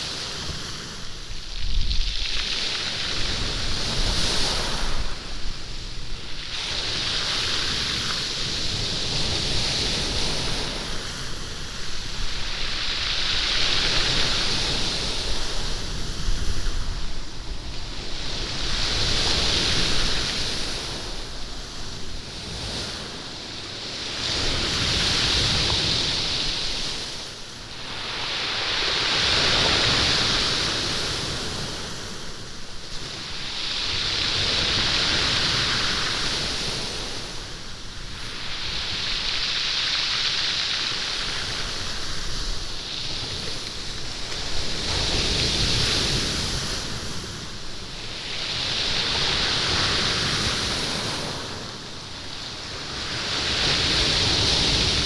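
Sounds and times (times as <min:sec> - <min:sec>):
sea waves on stony beach: 0:00.0 - 0:55.0.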